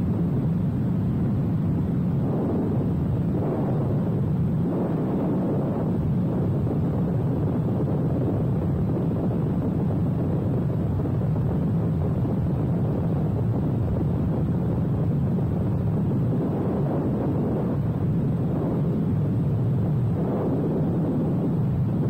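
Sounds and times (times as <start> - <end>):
freefall wind rushing: 0.0 - 22.0.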